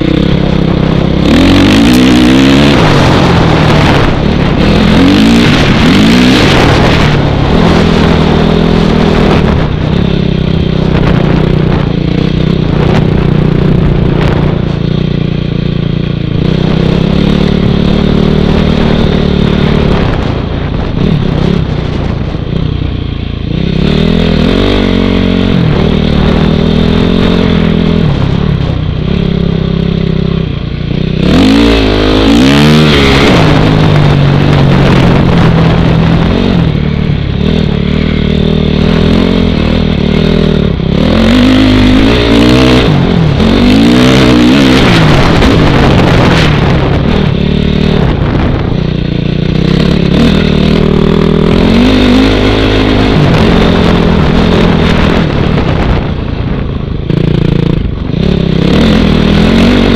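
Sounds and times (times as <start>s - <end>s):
dirt bike engine revving: 0.0s - 59.9s
wind noise on microphone: 0.0s - 59.9s.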